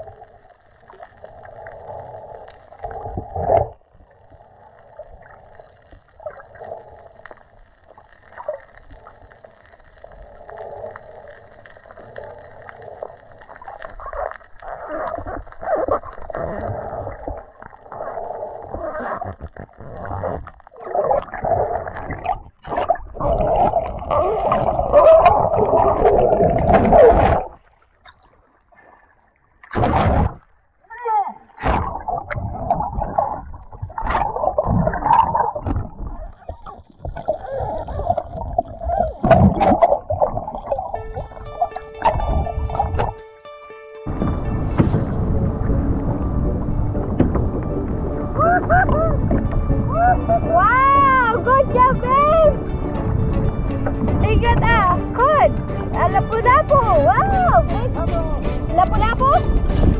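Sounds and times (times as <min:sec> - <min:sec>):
underwater water gurgling: 0:00.0 - 0:30.8, 0:31.4 - 0:43.2, 0:44.1 - 0:59.9.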